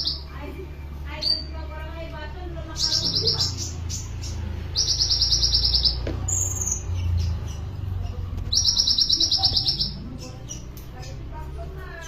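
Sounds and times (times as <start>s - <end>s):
songbird trilling: 0.0s - 12.0s.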